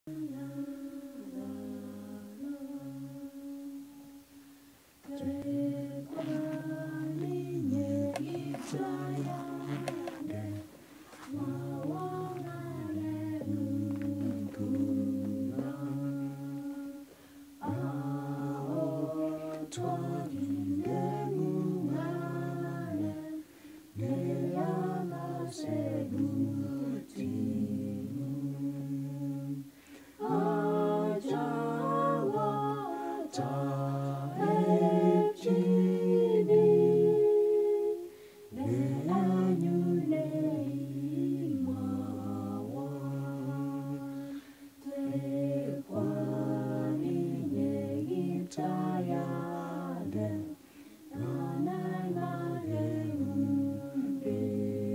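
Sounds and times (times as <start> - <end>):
group singing a hymn: 0.0 - 54.9.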